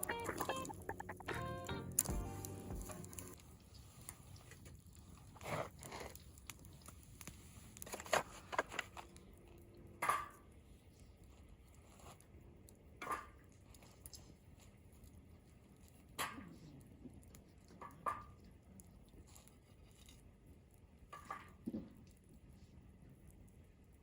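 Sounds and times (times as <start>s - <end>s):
rustling and crinkling: 2.0s - 24.0s.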